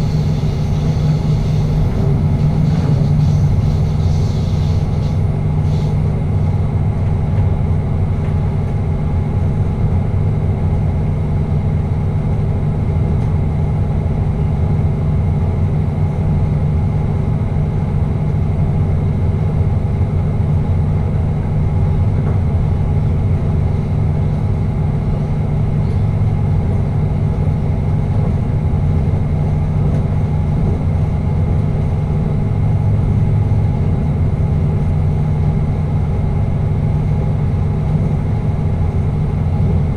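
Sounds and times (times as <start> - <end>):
train engine and running gear drone: 0.0 - 39.9.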